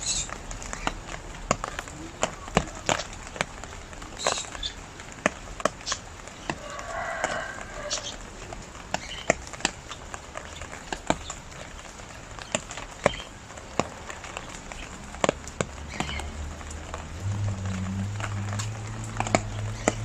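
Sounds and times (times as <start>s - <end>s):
rain drops ticking on hard surface: 0.0s - 20.0s.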